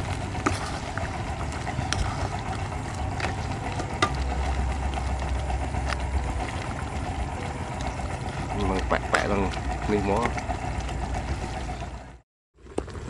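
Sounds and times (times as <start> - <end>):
metal ladle stirring soup: 0.0 - 12.0
steady low rumble: 0.0 - 12.2.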